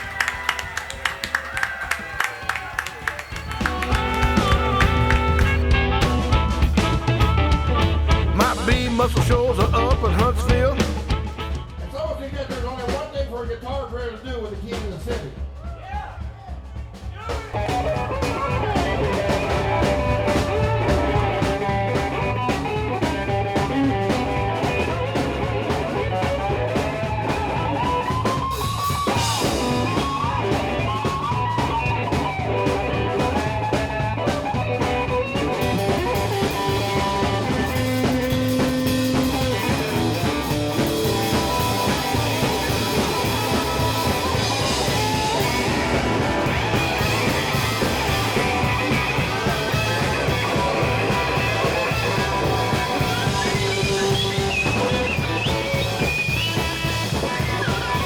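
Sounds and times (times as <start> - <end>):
slide electric guitar: 0.0 - 12.0, 17.5 - 58.0
bass: 0.0 - 58.0
steady drum beat: 0.0 - 58.0.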